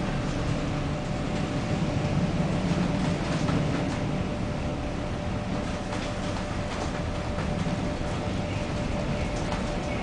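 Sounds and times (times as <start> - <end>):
ship low rumble and hum: 0.0 - 10.0.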